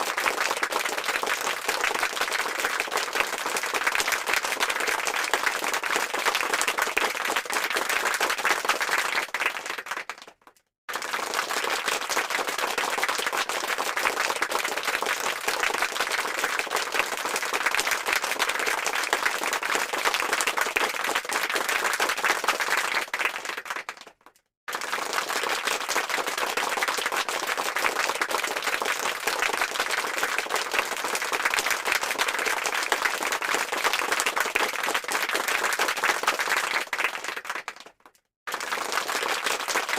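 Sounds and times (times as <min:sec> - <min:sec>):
crowd clapping: 0:00.0 - 0:39.9.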